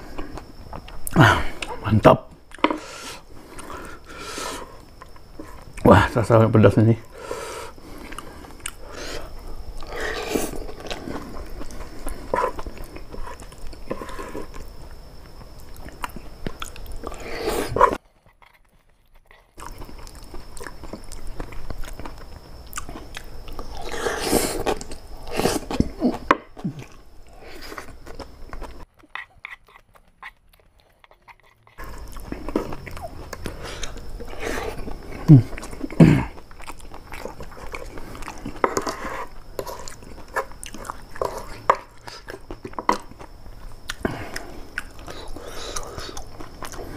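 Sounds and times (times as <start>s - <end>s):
crunchy chewing: 0.0s - 6.4s, 7.0s - 46.9s.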